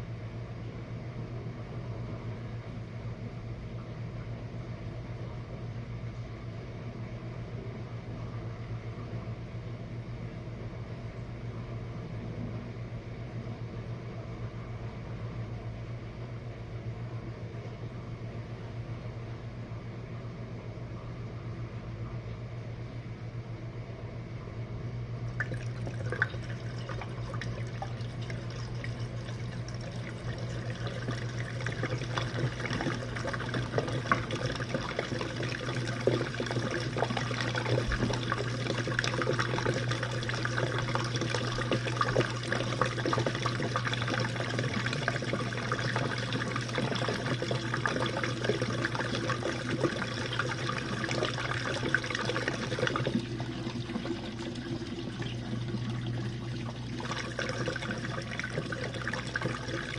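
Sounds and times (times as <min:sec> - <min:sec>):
dishwasher motor hum: 0:00.0 - 0:20.1, 0:20.8 - 0:59.9.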